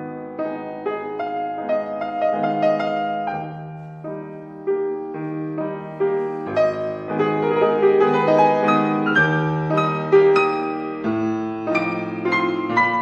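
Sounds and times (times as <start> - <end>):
calm piano melody: 0.0 - 13.0.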